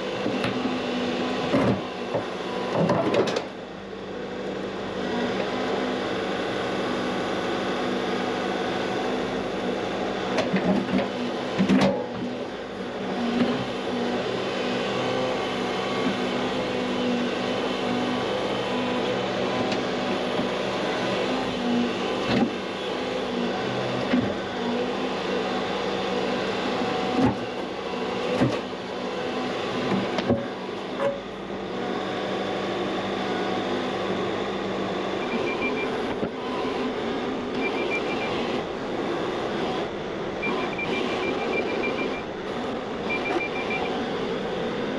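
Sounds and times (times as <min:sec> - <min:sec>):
excavator engine running: 0:00.0 - 0:44.9.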